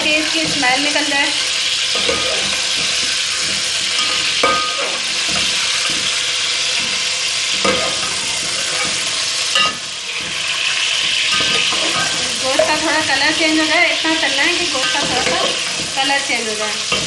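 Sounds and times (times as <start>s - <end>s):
meat sizzling in hot oil: 0.0s - 17.0s
spoon knocking metal pot: 1.9s - 17.0s.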